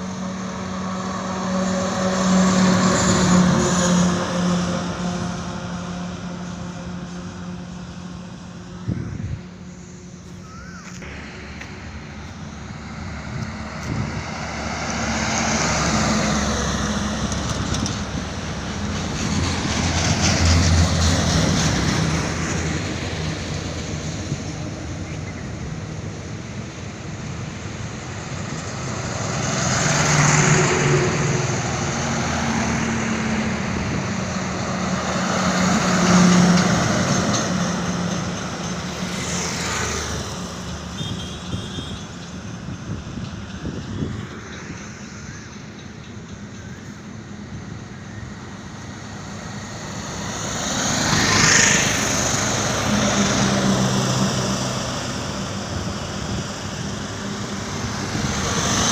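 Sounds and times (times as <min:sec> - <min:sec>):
trucks passing on highway: 0:00.0 - 0:58.9.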